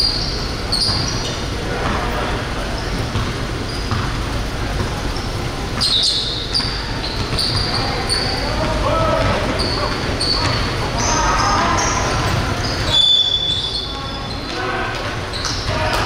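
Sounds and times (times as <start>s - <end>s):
crowd murmur: 0.0s - 16.0s
sneakers squeaking on court: 0.0s - 16.0s.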